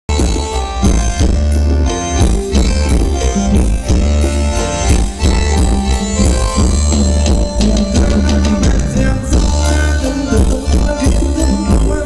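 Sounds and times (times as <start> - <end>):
live band dance music: 0.1 - 12.0.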